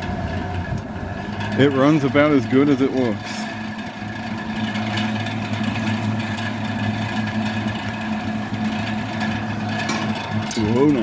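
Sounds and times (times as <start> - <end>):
electric fan motor hum: 0.0 - 11.0.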